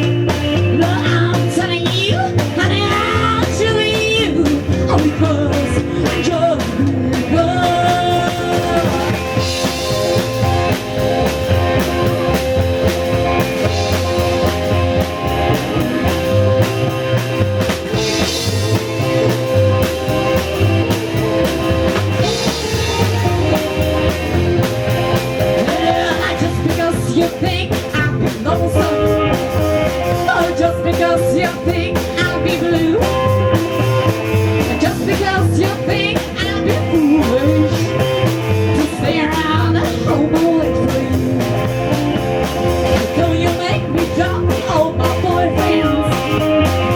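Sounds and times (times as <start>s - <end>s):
rock and roll band music: 0.0s - 46.9s.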